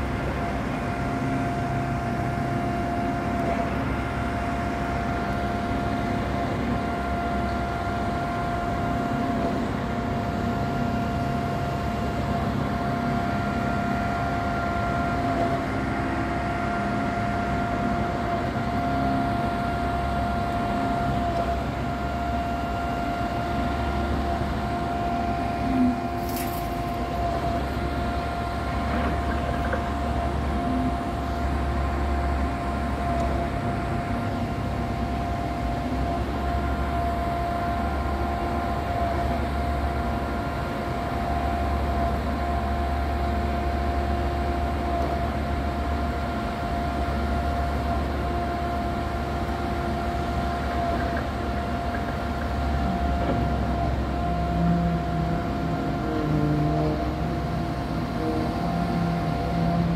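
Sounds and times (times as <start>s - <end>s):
construction machinery drone: 0.0s - 59.9s.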